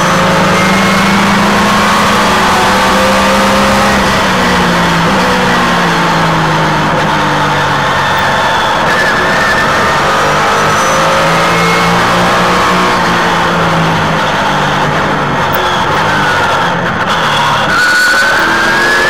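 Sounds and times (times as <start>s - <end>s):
race car engine running hard: 0.0s - 19.0s.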